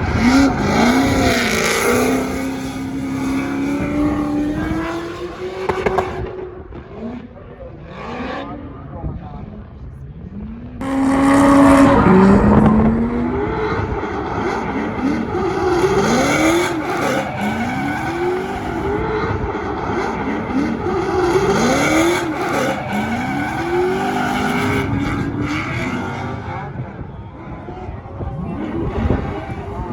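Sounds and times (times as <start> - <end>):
car engine revving hard: 0.0 - 8.6, 10.8 - 29.9.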